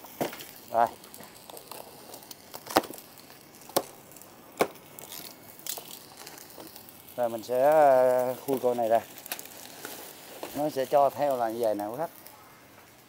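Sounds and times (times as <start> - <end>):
faint background crackle: 0.0 - 13.0.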